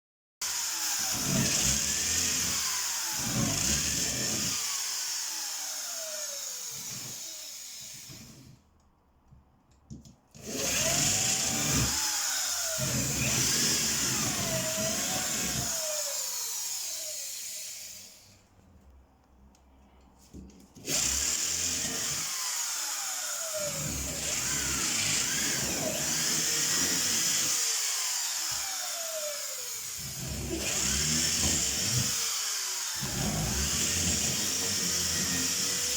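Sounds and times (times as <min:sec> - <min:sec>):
electric drill labouring: 0:00.4 - 0:08.6, 0:10.4 - 0:18.3, 0:20.8 - 0:35.9.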